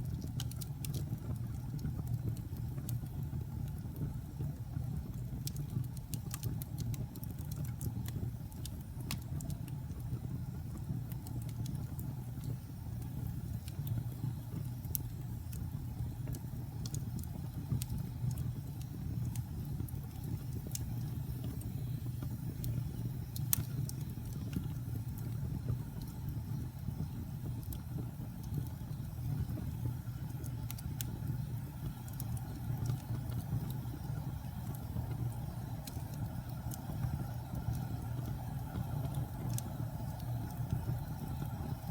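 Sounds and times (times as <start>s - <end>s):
campfire burning: 0.0s - 41.9s
wood crackling and popping: 0.0s - 41.9s.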